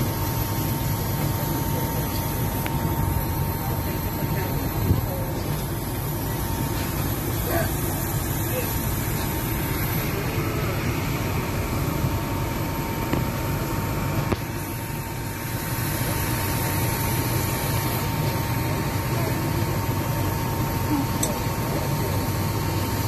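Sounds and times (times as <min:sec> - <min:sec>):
parked airliner engine drone: 0:00.0 - 0:23.0.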